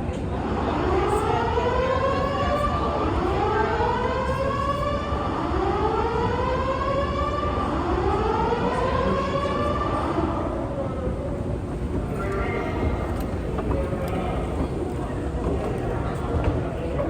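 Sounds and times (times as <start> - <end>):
low hubbub: 0.0 - 17.0.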